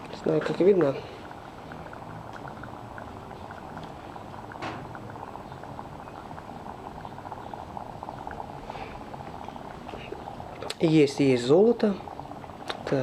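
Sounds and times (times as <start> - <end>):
liquid bubbling: 0.0 - 13.0.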